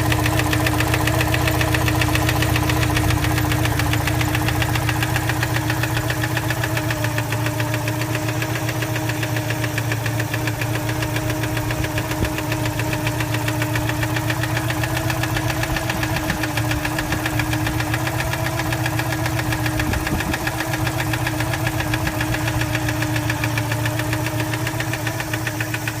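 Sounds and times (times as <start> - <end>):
car engine running: 0.0 - 26.0
rapid engine knocking: 0.0 - 26.0.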